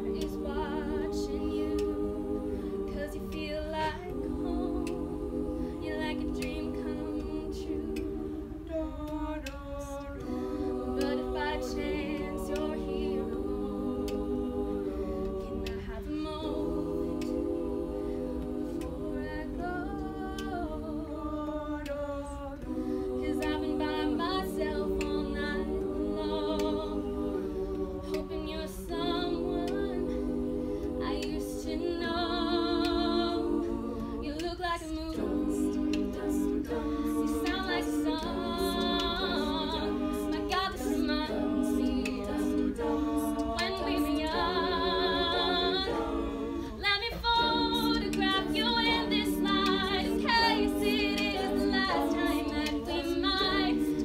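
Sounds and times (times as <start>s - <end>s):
women singing a cappella: 0.0s - 54.0s.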